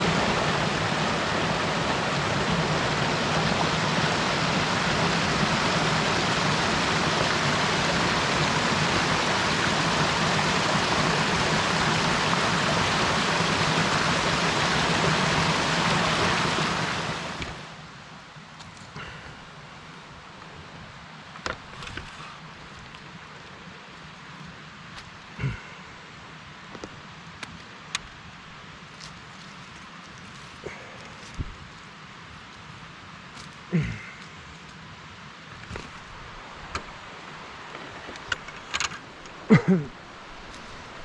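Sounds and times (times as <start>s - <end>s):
water rushing: 0.0s - 18.0s, 19.0s - 41.0s.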